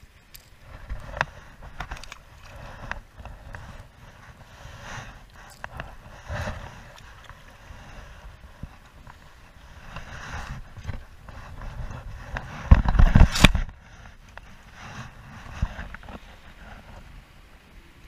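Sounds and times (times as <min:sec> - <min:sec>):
small waves lapping on kayak hull: 0:00.0 - 0:17.6
wind rumbling on microphone: 0:00.0 - 0:18.0.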